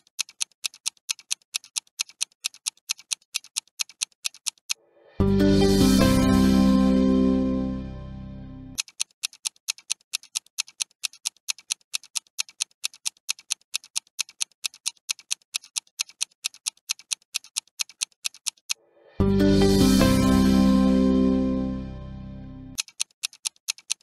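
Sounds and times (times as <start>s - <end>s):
clock ticking: 0.0s - 7.5s, 8.8s - 22.0s, 22.7s - 24.0s.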